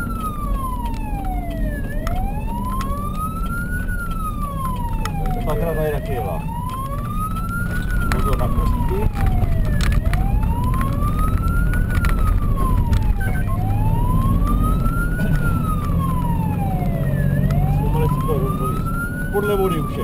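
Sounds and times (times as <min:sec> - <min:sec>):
fire engine wailing siren: 0:00.0 - 0:20.0
truck engine and road noise: 0:00.0 - 0:20.0.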